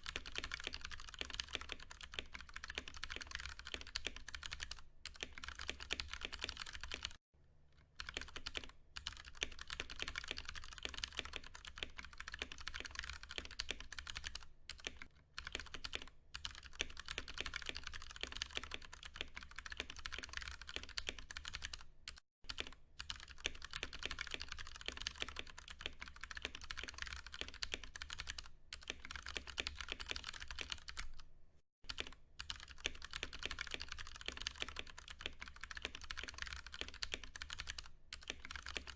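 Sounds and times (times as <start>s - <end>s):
typing on mechanical keyboard: 0.0s - 7.2s, 8.0s - 31.3s, 31.9s - 38.9s.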